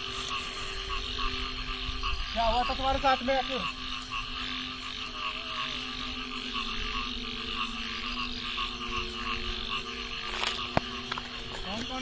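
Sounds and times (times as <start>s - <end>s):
frogs croaking: 0.0s - 12.0s
steady low hum: 0.0s - 12.0s.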